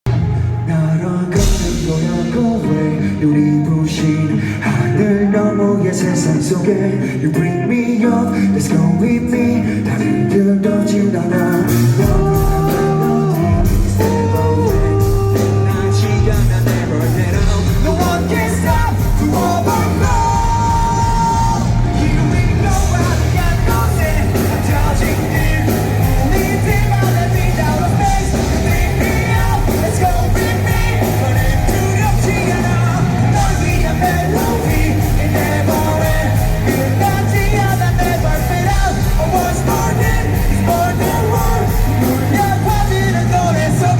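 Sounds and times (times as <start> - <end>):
live rock band: 0.0 - 43.9
man singing: 0.1 - 43.9.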